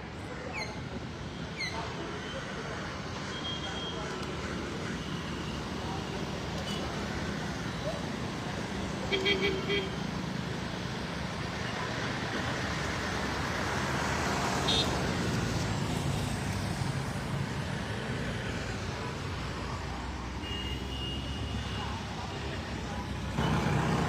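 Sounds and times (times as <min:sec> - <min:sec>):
road traffic hum and tyre noise: 0:00.0 - 0:24.0.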